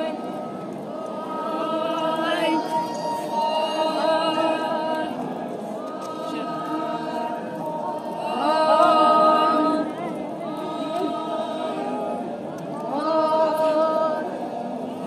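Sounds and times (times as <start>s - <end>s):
group singing without instruments: 0.0s - 14.7s.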